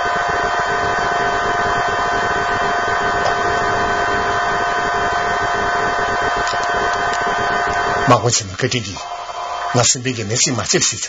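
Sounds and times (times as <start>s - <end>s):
held steady tones: 0.0s - 10.6s.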